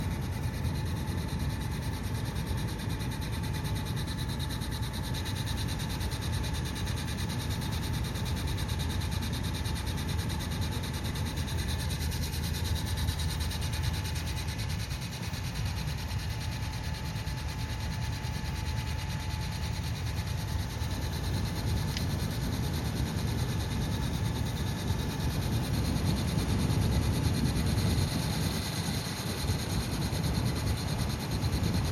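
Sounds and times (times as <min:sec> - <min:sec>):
thin whine: 0:00.0 - 0:31.9.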